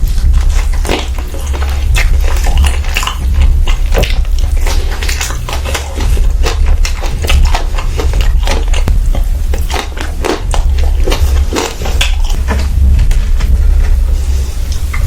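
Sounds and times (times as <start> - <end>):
steady low hum: 0.0 - 15.0
wet chewing and mouth smacking: 0.0 - 15.0.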